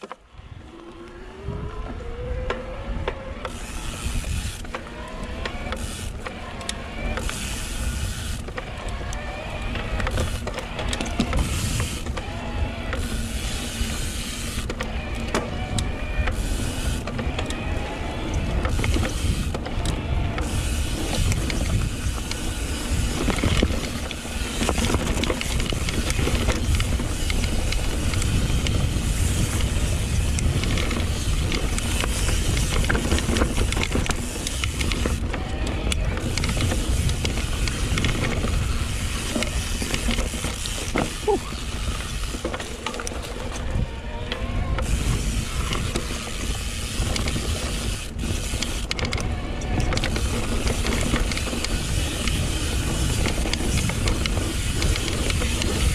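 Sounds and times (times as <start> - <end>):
bike clattering over trail: 2.4 - 55.9.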